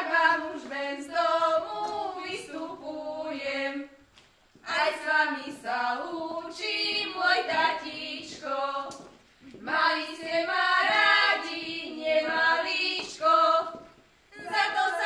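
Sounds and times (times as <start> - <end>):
women singing without instruments: 0.0 - 15.0.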